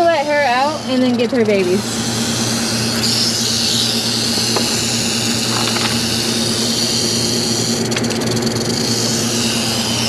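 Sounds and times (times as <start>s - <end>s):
pool pump motor hum: 0.0s - 10.0s
rattlesnake rattle: 0.0s - 10.0s.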